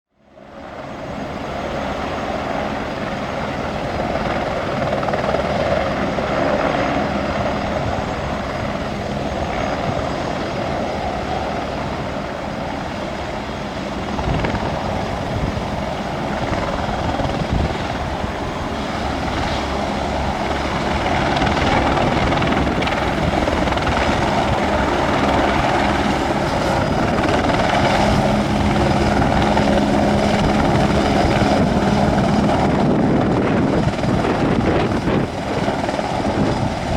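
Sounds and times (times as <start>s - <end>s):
helicopter rotor and turbine: 0.2s - 36.9s.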